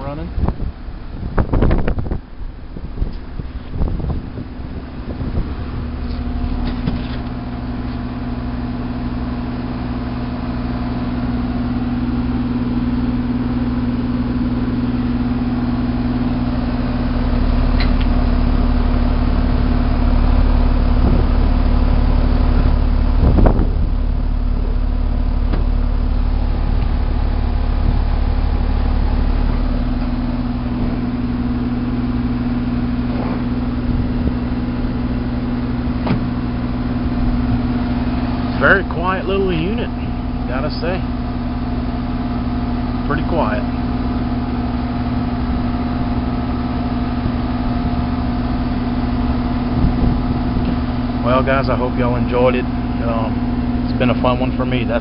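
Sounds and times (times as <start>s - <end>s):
air conditioner hum: 0.0s - 55.0s
low rumble: 0.0s - 55.0s.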